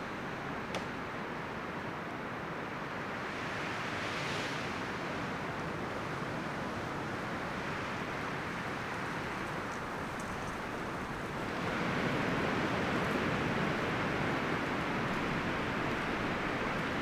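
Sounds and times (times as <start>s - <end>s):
wind rustling tree leaves: 0.0s - 17.0s.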